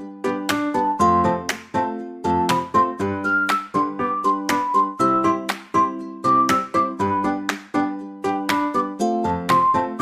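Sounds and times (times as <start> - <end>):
bouncy background music: 0.0 - 10.0.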